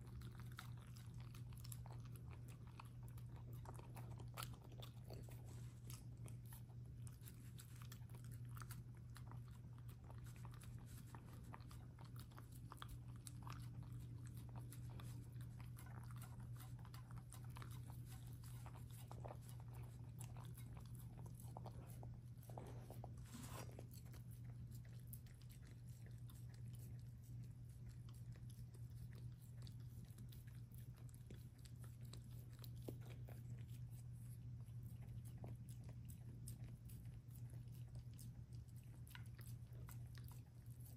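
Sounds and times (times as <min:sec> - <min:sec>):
dog chewing and lapping: 0:00.0 - 0:40.9
steady low hum: 0:00.0 - 0:40.9.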